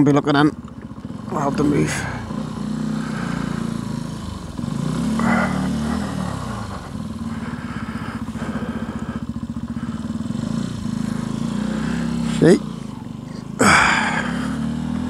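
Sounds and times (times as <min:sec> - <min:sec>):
motorcycle engine pulling away: 0:00.0 - 0:15.0.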